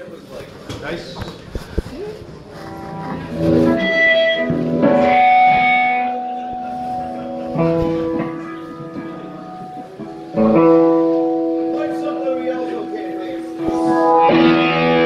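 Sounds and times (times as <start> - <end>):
electric guitar chords ringing: 2.7 - 15.0.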